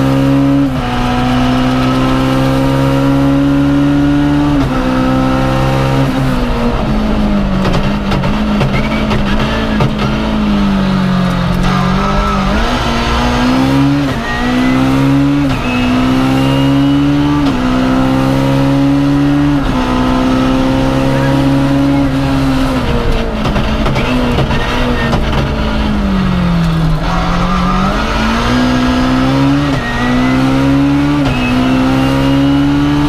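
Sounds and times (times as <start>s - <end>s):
car engine accelerating through gears: 0.0s - 33.0s.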